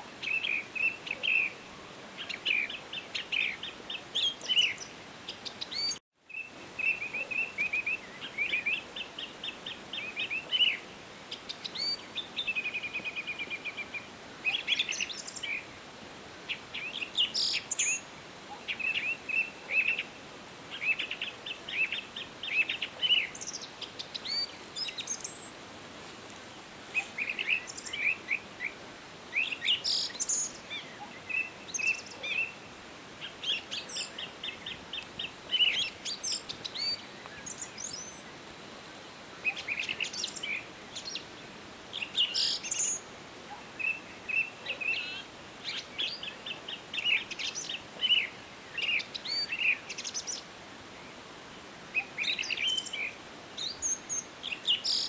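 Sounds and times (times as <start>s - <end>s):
background hiss: 0.0s - 55.0s
songbirds chirping and trilling: 0.0s - 55.0s.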